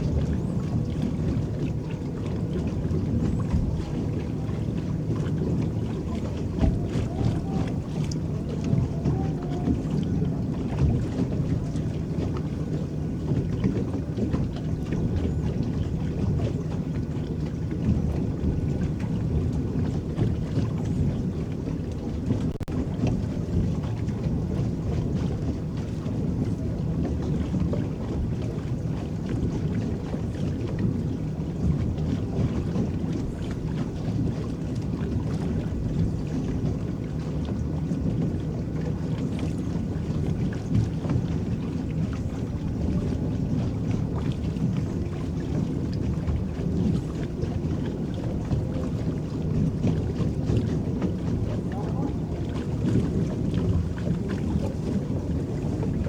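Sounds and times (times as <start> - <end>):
small water splashes: 0.0 - 56.0
water churning around boat: 0.0 - 56.0.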